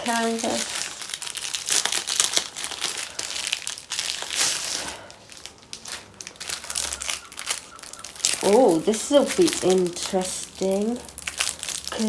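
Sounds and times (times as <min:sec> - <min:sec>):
plastic packaging crinkling: 0:00.0 - 0:12.0
tape tearing: 0:00.0 - 0:12.0.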